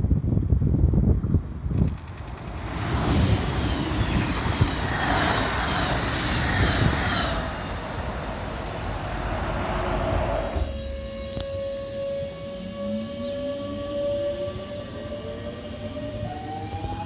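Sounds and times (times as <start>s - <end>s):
train rumbling past: 0.9s - 17.0s
high squealing train tones: 2.2s - 17.0s.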